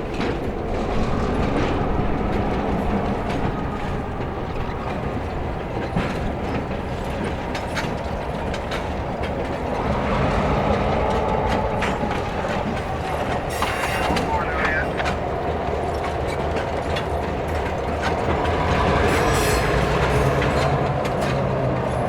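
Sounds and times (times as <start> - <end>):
train rumbling past: 0.0 - 22.0
wheels clicking over rail joints: 0.0 - 22.0.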